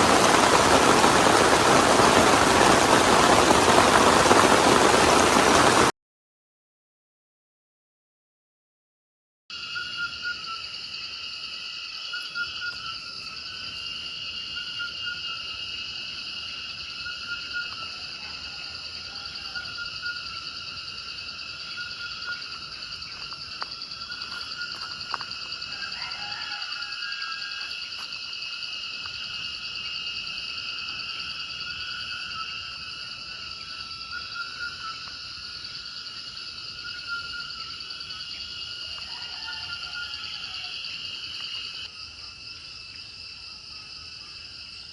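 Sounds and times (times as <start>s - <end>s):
insects trilling: 0.0s - 5.9s, 9.5s - 44.9s.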